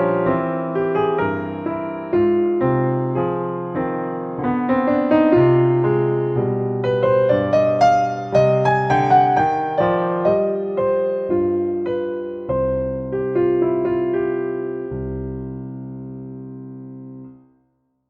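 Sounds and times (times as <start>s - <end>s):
slow gentle piano melody: 0.0s - 17.5s.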